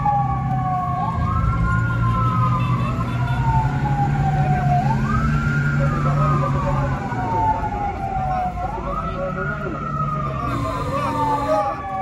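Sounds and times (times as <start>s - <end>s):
sirens wailing: 0.0s - 12.0s.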